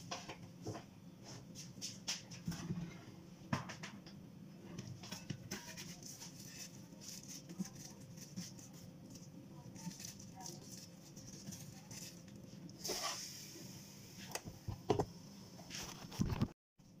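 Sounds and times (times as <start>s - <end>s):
low appliance hum: 0.0s - 17.0s.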